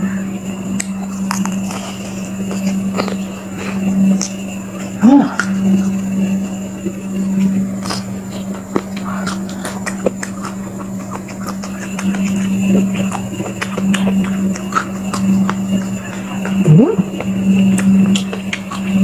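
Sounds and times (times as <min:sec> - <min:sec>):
crunchy chewing: 0:00.0 - 0:19.0
low hum: 0:00.0 - 0:19.0.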